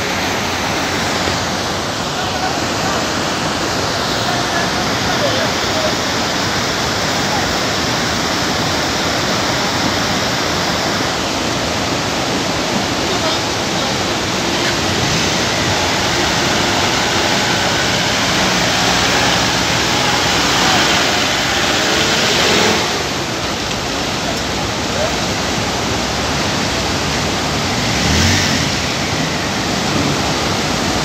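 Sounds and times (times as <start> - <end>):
faint vehicle engine running: 0.0 - 31.0
river rushing over boulders: 0.0 - 31.0.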